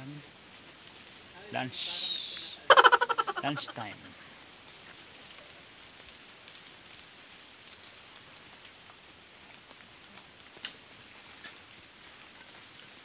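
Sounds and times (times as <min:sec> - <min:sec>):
light rain hiss: 0:00.0 - 0:13.0
raindrops ticking: 0:02.1 - 0:13.0.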